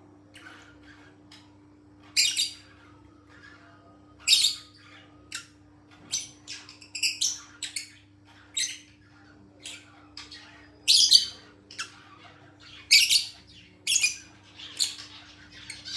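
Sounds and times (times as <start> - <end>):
bird chirping squawks: 0.3 - 15.9.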